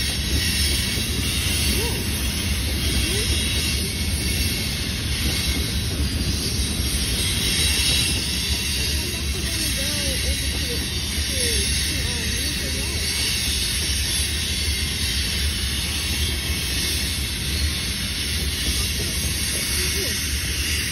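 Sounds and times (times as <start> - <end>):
freight cars rolling rumble: 0.0 - 20.9.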